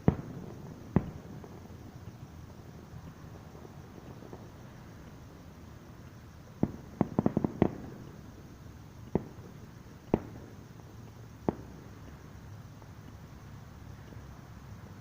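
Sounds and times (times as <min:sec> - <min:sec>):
distant fireworks booming: 0:00.0 - 0:12.4.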